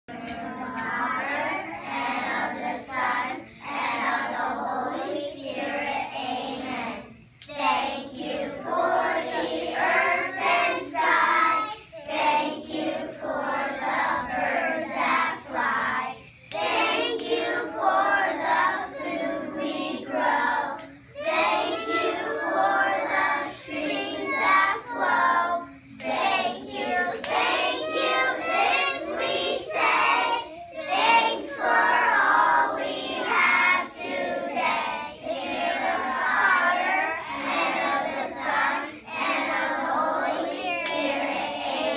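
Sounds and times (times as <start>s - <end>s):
children singing: 0.1s - 41.9s.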